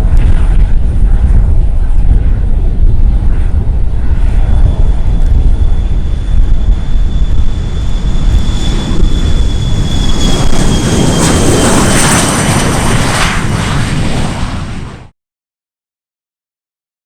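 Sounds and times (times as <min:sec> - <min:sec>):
jet engines passing: 0:00.0 - 0:15.1.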